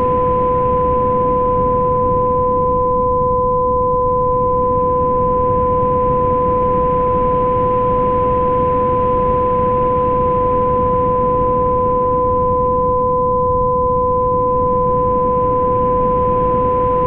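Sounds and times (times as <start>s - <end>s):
two steady pure tones: 0.0s - 17.0s.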